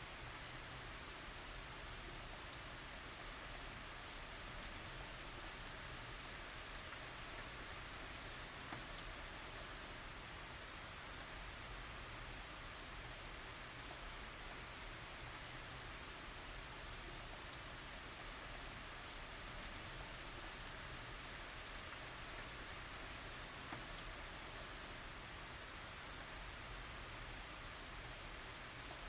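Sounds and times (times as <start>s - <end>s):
light rain pattering: 0.0s - 29.0s
small raindrop ticks: 0.1s - 29.0s.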